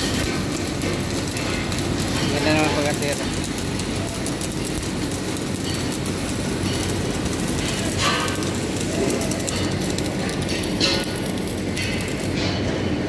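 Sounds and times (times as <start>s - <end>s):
welding arc crackling: 0.0s - 13.0s.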